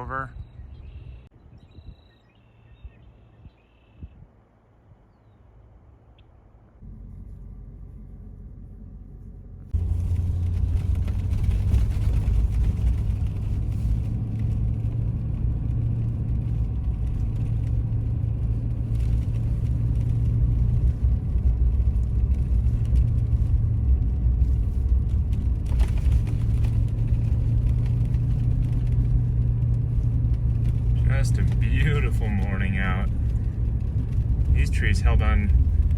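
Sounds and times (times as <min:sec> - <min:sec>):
car engine and road rumble: 0:00.0 - 0:35.9.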